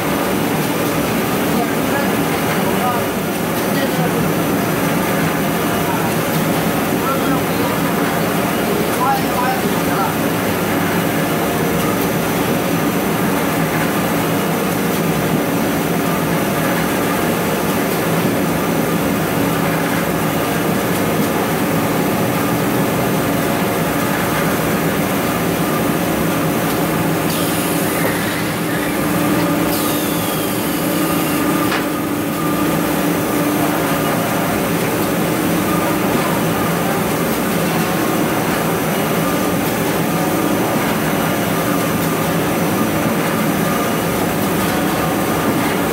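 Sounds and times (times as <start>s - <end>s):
machine running steadily: 0.0s - 45.9s.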